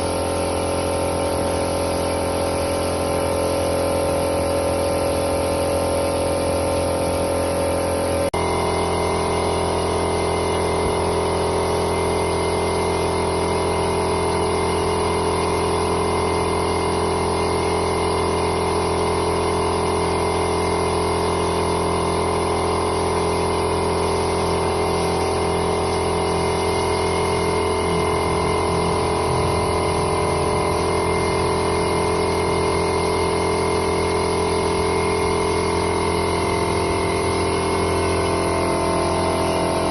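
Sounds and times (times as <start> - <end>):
motor-driven machine humming: 0.0 - 39.9.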